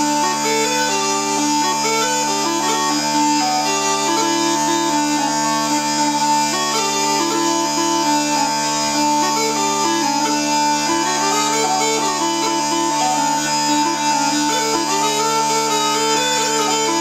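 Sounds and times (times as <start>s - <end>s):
bagpipe drone chord: 0.0s - 17.0s
smallpipes playing lively tune: 0.0s - 17.0s.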